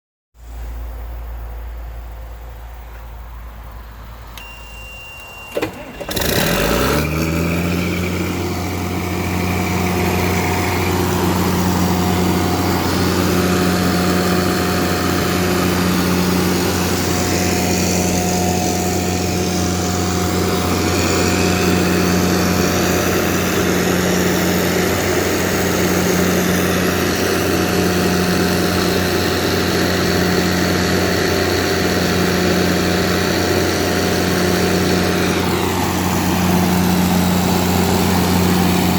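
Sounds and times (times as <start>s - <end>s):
diesel generator cranking and running: 0.8s - 38.9s.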